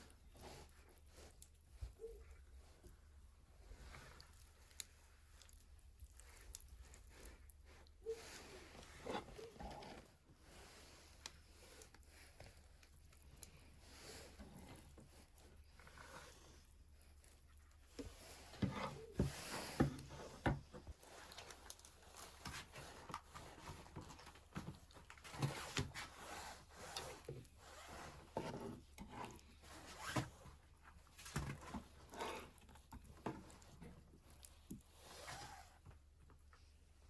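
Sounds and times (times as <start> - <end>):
rustling: 0.0 - 37.0.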